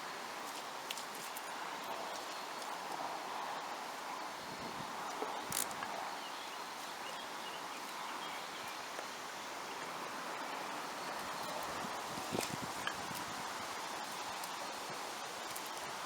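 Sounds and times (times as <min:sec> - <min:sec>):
wind rustling foliage: 0:00.0 - 0:16.0.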